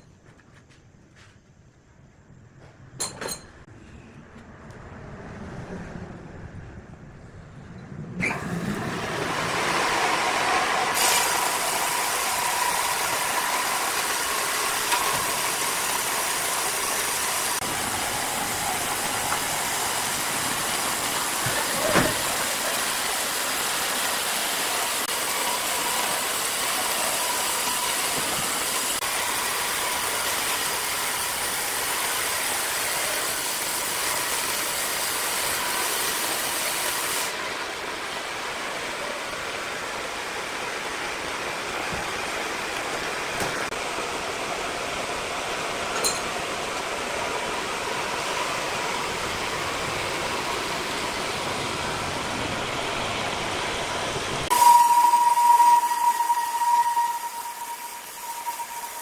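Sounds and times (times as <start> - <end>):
band sawmill running: 8.2 - 59.0.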